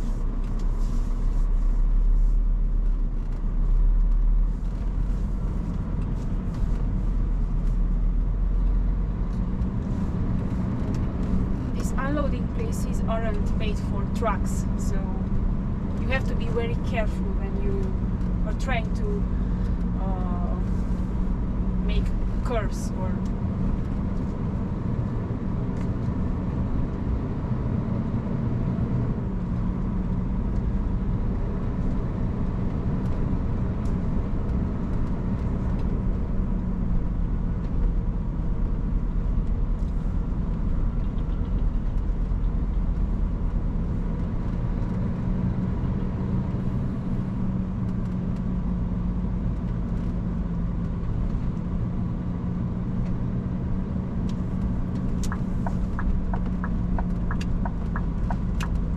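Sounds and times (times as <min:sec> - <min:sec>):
low road rumble: 0:00.0 - 0:58.9
truck diesel engine drone: 0:00.0 - 0:58.9.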